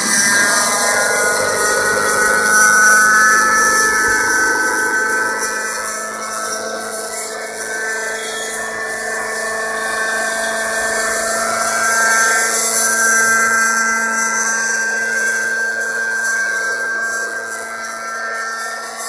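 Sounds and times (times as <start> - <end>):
model helicopter engine whine: 0.0 - 19.0
rotor hum: 0.0 - 19.0.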